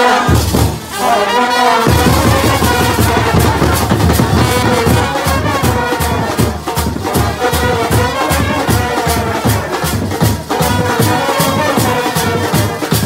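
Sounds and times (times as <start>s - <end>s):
brass street band playing: 0.0s - 13.0s
trumpets playing melody: 0.0s - 13.0s
bass drum: 1.9s - 13.0s.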